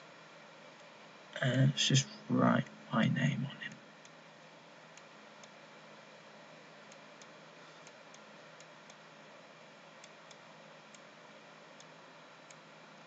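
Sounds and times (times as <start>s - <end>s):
steady low hum and hiss: 0.0s - 13.0s.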